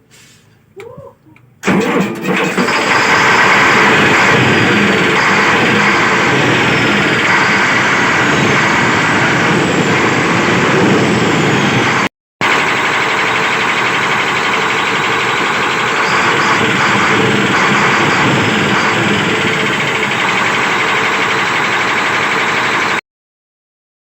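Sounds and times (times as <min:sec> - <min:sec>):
diesel engine running: 0:01.6 - 0:23.0.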